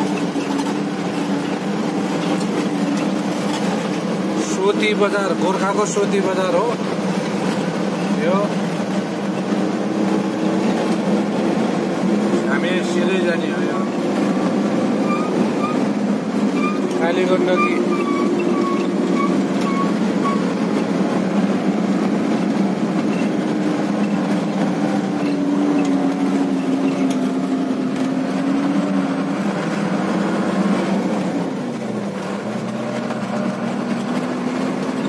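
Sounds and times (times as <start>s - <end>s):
road noise: 0.0s - 35.0s
truck engine running: 0.0s - 35.0s.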